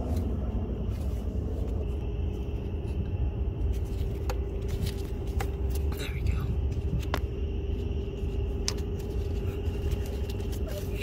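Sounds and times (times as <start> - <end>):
faint steady hum: 0.0 - 11.0
low outdoor rumble: 0.0 - 11.0.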